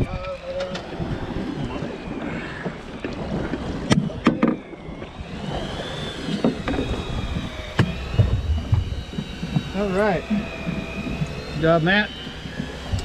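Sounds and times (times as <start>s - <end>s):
boat noise: 0.0s - 13.0s
wind: 0.0s - 13.0s.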